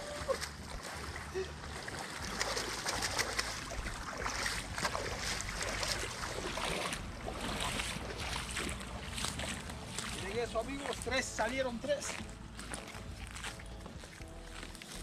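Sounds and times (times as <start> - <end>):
net dragged through water: 0.0 - 13.6
water splashing around wading feet: 0.0 - 15.0.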